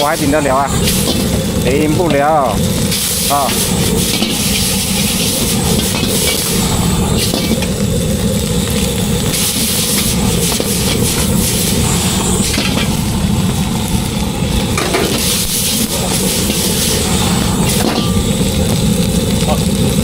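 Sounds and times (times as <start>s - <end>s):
noodles sizzling in stir-fry: 0.0s - 20.0s
steady low rumble: 0.0s - 20.0s.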